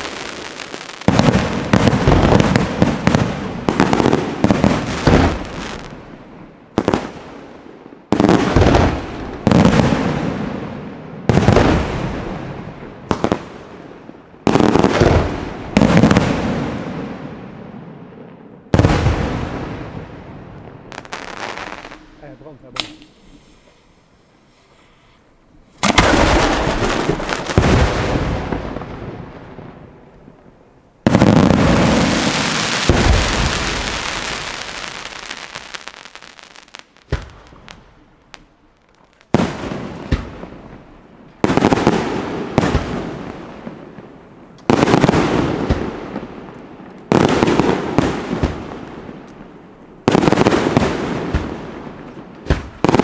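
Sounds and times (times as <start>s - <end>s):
fireworks crackle: 0.0s - 10.3s, 18.7s - 25.0s, 25.6s - 30.3s, 31.0s - 53.0s
fireworks bangs: 0.0s - 24.3s, 25.5s - 53.0s.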